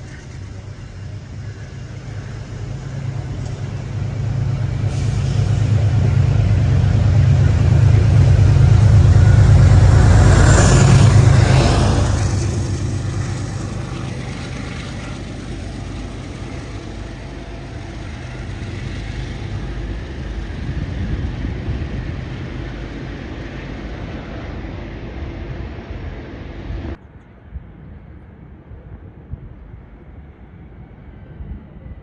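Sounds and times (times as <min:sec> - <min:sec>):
faint wind noise: 0:00.0 - 0:32.0
train rumbling past: 0:00.0 - 0:32.0.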